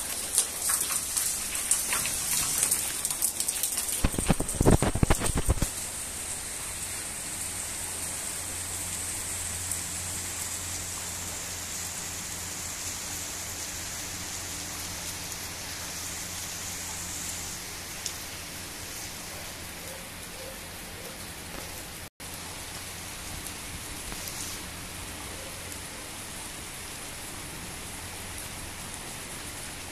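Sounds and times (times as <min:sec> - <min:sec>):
heavy rain on roofs and streets: 0:00.0 - 0:29.9.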